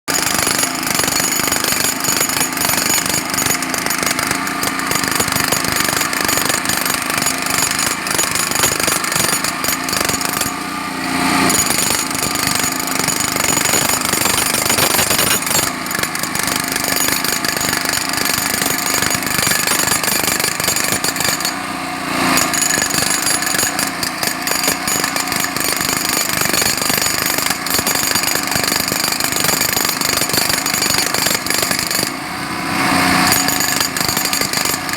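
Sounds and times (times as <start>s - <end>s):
jackhammer hammering: 0.1s - 34.9s.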